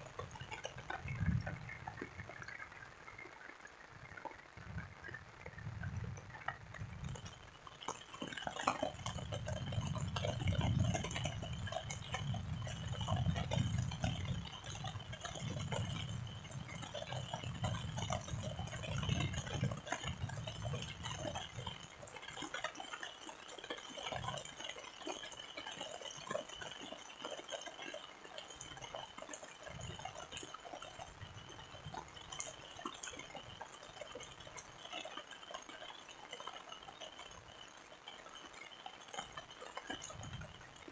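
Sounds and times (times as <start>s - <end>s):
rain patter and drips: 0.0s - 40.9s.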